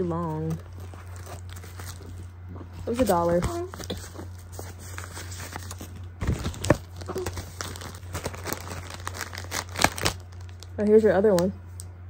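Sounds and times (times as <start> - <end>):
packaging crinkling and tearing: 0.3 - 10.8.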